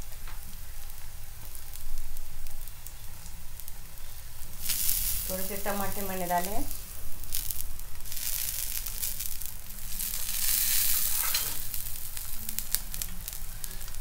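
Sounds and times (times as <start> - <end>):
batter sizzling in oil: 0.0 - 14.0
oil crackles: 0.4 - 14.0.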